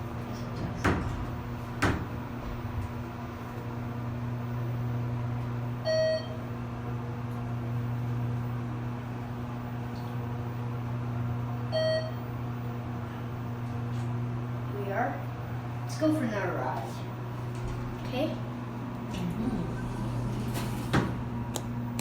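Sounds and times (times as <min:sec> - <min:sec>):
elevator car humming: 0:00.0 - 0:22.0.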